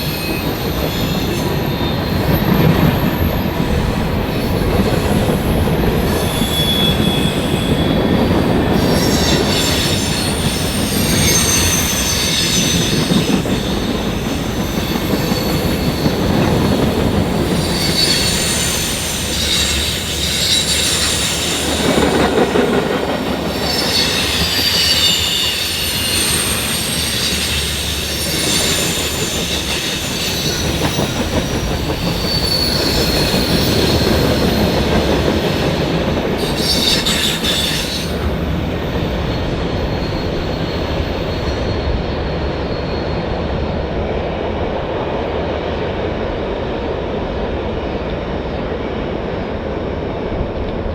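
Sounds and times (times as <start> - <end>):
train wheels squealing: 0.0 - 44.4
railroad cars rumbling past: 0.0 - 50.9.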